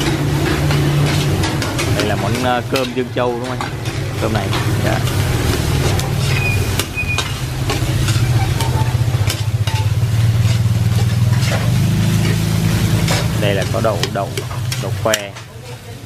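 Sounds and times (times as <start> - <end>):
metal spatula scraping wok: 0.0 - 16.0
rice sizzling: 0.0 - 16.0.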